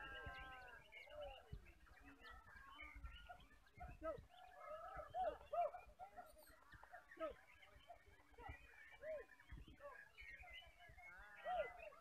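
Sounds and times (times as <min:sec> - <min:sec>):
songbirds whistling and chirping: 0:00.0 - 0:12.0.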